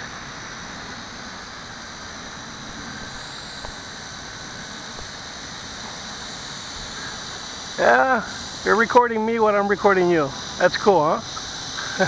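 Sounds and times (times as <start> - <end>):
quadcopter motors buzzing: 0.0 - 12.0.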